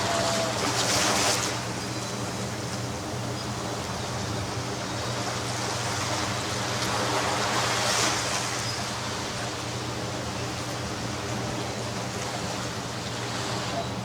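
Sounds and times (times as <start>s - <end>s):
ocean surf on a beach: 0.0s - 14.0s.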